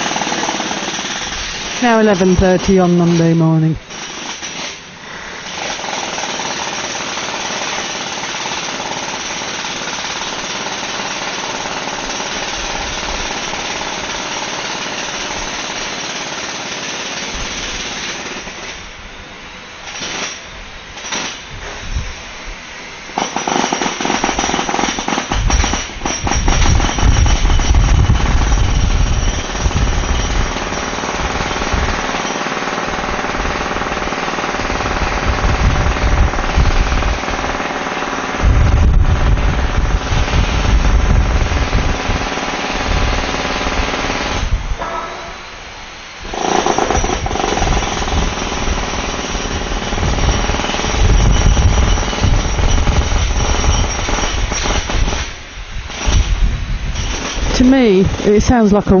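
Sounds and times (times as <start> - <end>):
jackhammers breaking concrete: 0.0 - 3.2, 3.9 - 18.8, 23.2 - 45.1, 46.3 - 55.3.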